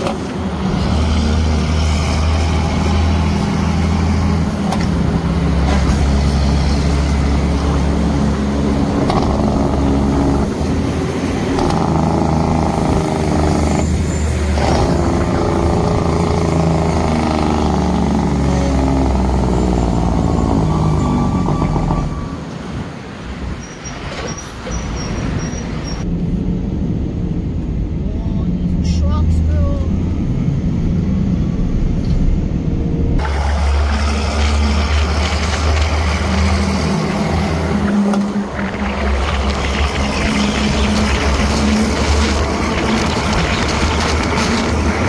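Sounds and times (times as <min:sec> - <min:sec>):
diesel truck engine pulling away: 0:00.0 - 0:22.9, 0:28.6 - 0:45.0.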